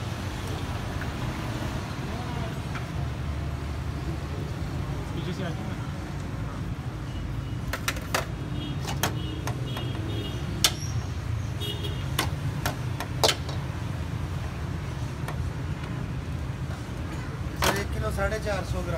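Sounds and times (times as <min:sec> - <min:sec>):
low hum of street noise: 0:00.0 - 0:18.9.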